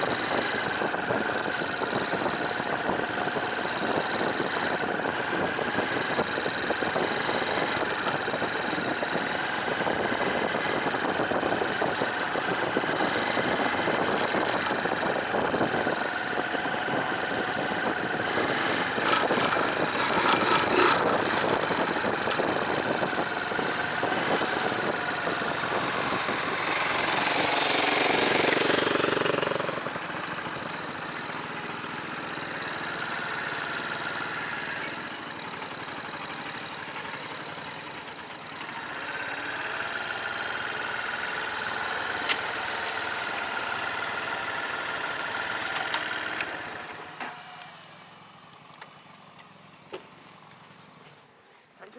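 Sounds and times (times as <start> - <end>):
dirt bike engine running: 0.0 - 47.1.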